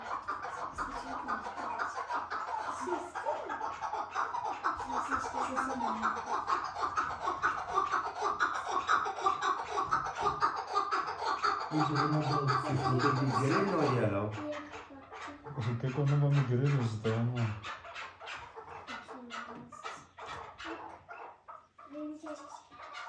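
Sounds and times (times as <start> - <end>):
partridge clucking call: 0.0 - 21.6.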